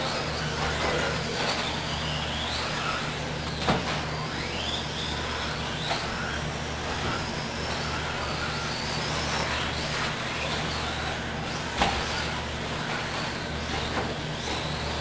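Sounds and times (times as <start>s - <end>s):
electric motors whining: 0.0s - 15.0s
steady low hum: 0.0s - 15.0s.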